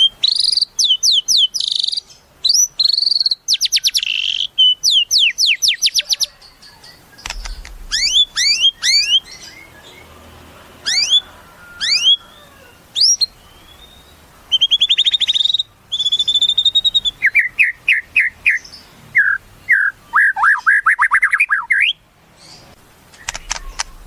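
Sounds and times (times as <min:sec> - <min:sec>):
bird singing varied song: 0:00.0 - 0:10.2, 0:10.8 - 0:24.0.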